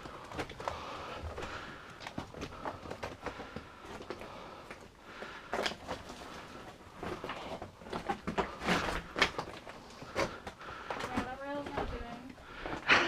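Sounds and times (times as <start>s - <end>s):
footsteps crunching on loose rock: 0.0s - 12.9s.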